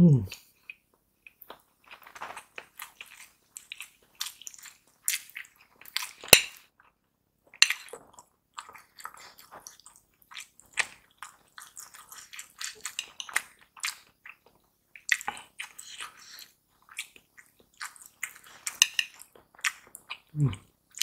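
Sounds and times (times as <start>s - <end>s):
chewing: 0.3s - 21.0s.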